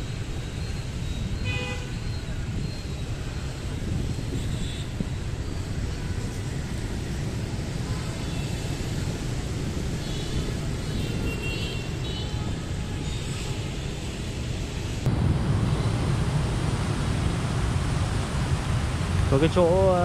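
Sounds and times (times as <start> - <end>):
city street rumble: 0.0 - 20.0.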